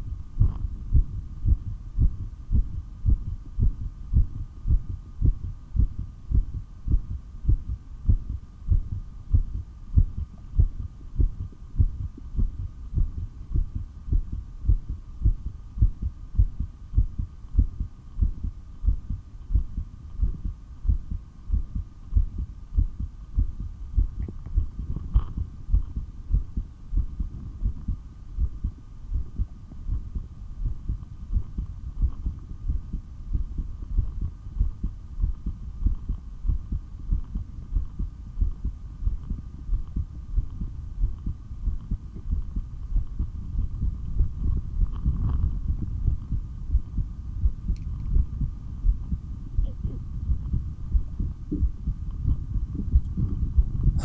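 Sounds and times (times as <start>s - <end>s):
faint steady hum: 0.0s - 54.0s
heartbeat through stethoscope: 0.0s - 54.0s.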